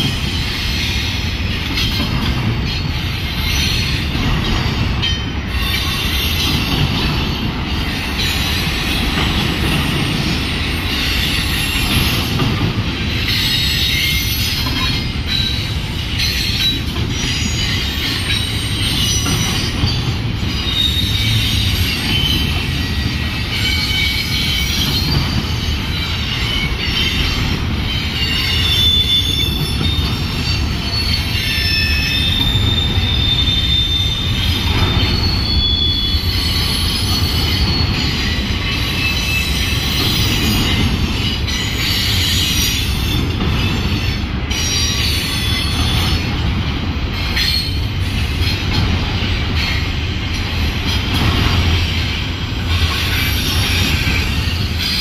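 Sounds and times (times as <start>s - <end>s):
freight train rumbling: 0.0s - 55.0s
train wheels squealing: 0.0s - 55.0s.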